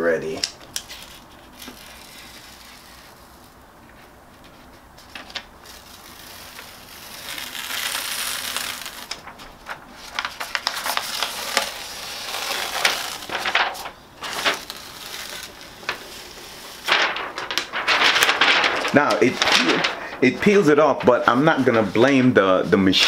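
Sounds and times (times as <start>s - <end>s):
transfer paper peeling crackle: 0.3s - 3.6s, 4.4s - 23.0s.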